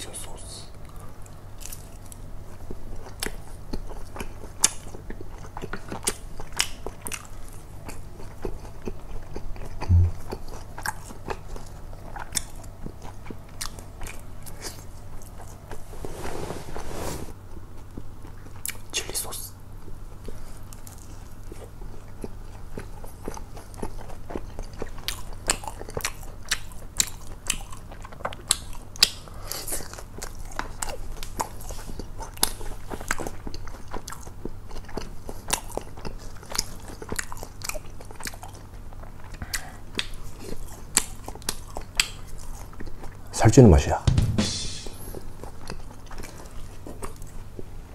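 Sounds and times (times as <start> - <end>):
crunchy chewing: 0.8 - 15.8, 20.2 - 43.3, 45.2 - 47.6.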